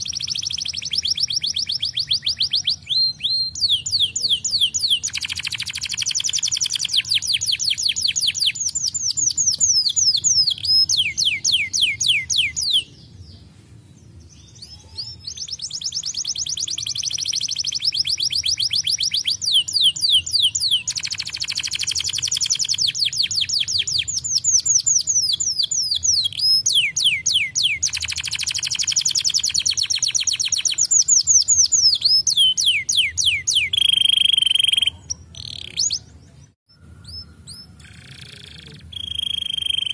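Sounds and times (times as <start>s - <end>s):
canary trilling: 0.0s - 12.9s, 14.6s - 36.2s, 36.8s - 39.9s.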